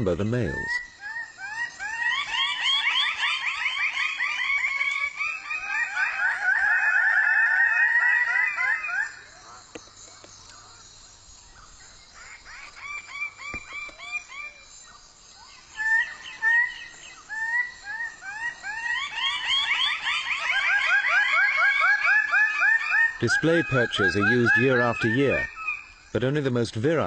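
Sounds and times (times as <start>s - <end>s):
birds giving rising display calls: 0.0s - 27.0s.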